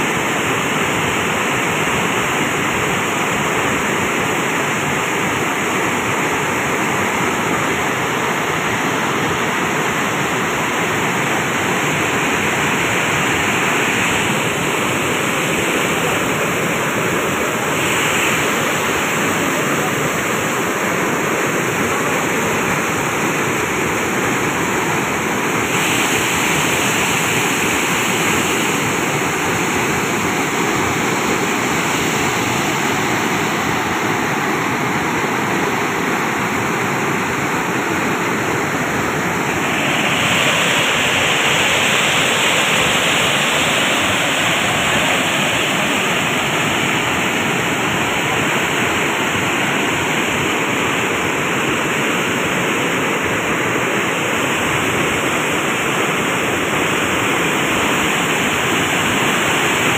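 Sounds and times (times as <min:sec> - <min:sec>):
water rushing over weir: 0:00.0 - 0:59.9.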